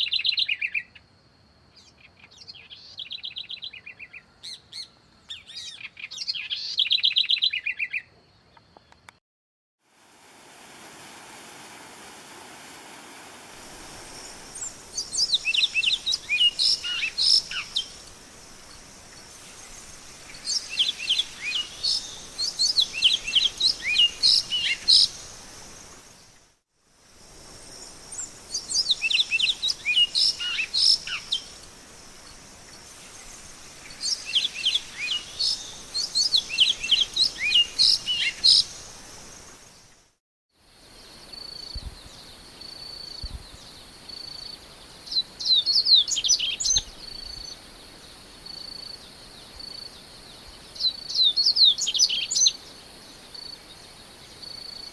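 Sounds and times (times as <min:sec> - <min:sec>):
songbird chirping: 0:00.0 - 0:09.2, 0:12.4 - 0:26.6, 0:27.4 - 0:40.1, 0:41.0 - 0:54.9.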